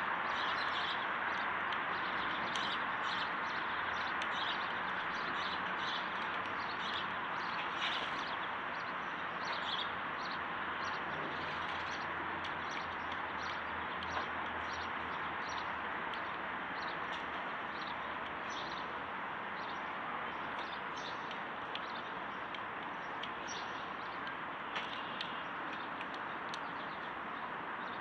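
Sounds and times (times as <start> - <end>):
small birds chirping: 0.2 - 28.0.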